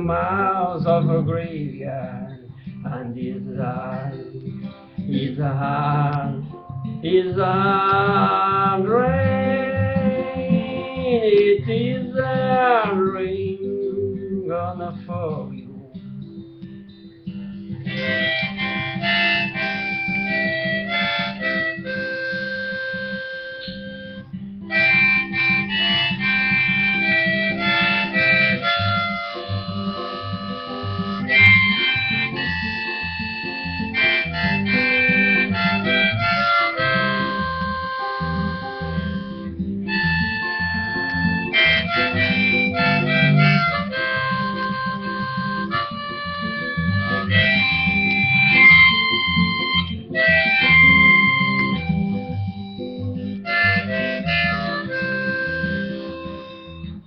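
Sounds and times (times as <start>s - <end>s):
strummed acoustic guitar: 0.0s - 57.0s
harmonica playing: 7.4s - 14.4s, 16.3s - 57.0s.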